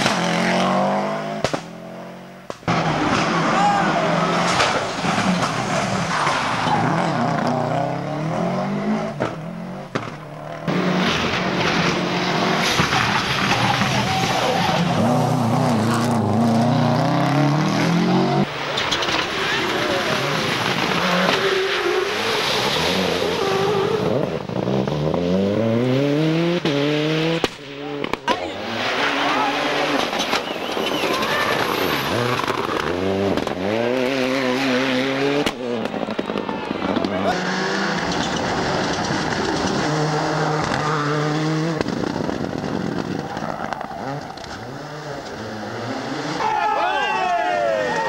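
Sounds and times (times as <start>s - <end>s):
rally car engine revving: 0.0s - 46.6s.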